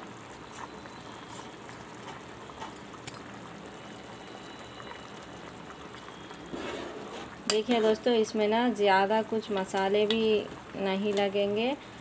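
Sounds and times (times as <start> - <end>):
gravy simmering and bubbling: 0.0 - 10.8.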